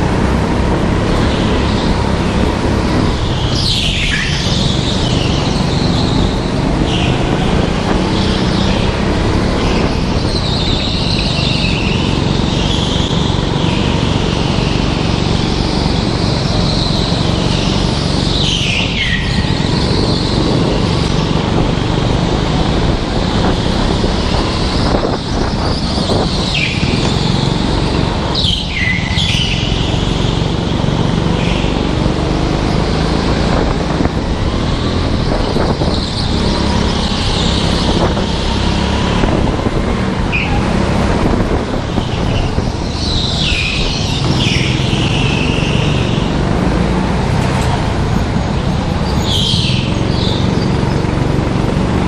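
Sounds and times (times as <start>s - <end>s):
go-kart engine droning: 0.0s - 52.0s
tyres squealing: 0.0s - 52.0s.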